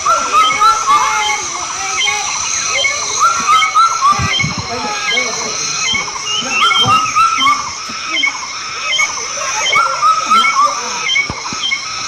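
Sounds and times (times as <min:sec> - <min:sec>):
steady high-pitched drone: 0:00.0 - 0:12.0.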